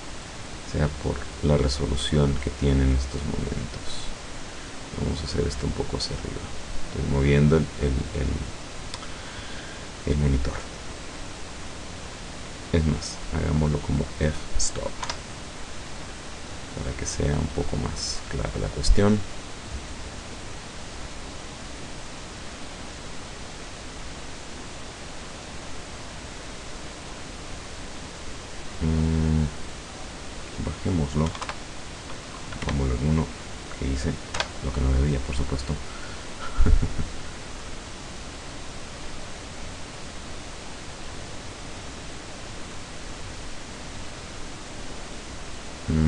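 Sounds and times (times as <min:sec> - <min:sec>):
background hiss: 0:00.0 - 0:46.0.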